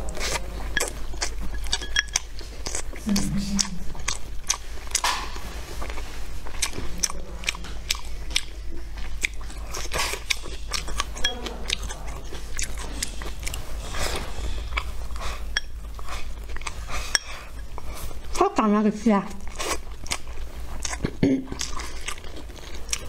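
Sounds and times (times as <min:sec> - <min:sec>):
person chewing food: 0:00.0 - 0:18.5, 0:19.3 - 0:23.0.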